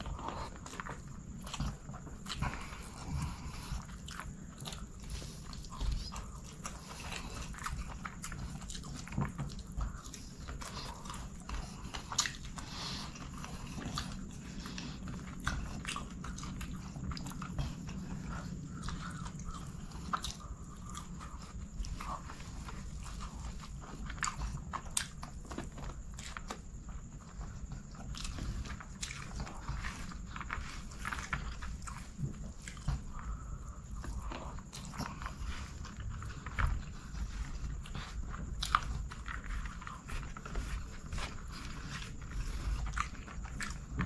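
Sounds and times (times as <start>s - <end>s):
chewing and lip smacking: 0.0s - 44.0s
steady low hum: 0.0s - 44.0s.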